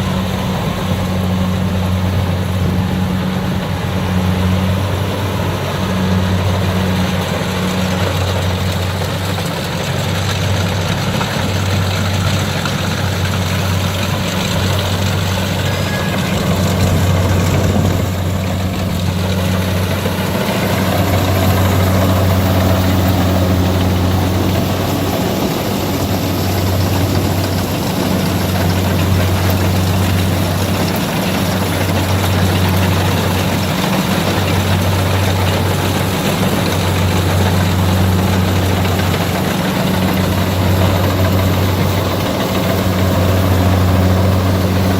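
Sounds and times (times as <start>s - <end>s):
combine harvester engine droning: 0.0s - 44.9s.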